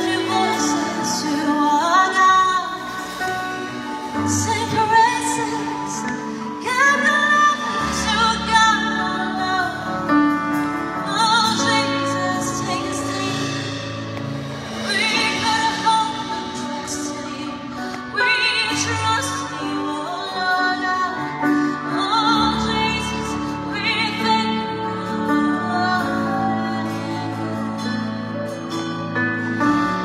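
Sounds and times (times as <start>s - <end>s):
woman singing worship song: 0.0s - 28.7s
band with guitars: 0.0s - 30.0s.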